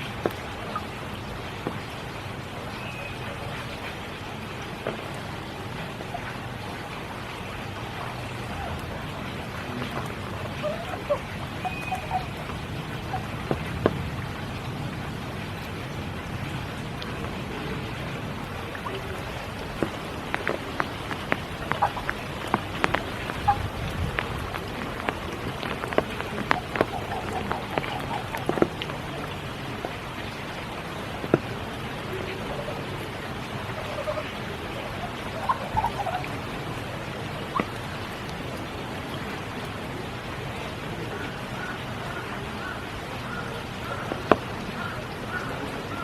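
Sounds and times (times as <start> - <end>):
rain falling steadily: 0.0 - 46.0
single raindrops striking close: 0.0 - 46.0.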